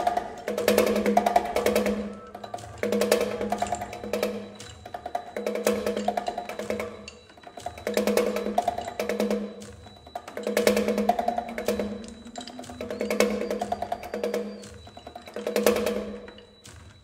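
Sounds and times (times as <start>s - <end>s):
pitched percussion knocking: 0.0s - 17.0s.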